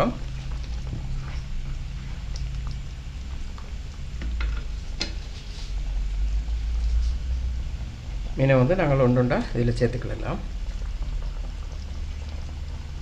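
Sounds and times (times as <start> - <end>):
curry bubbling in a pan: 0.0 - 13.0
steady low hum: 0.0 - 13.0.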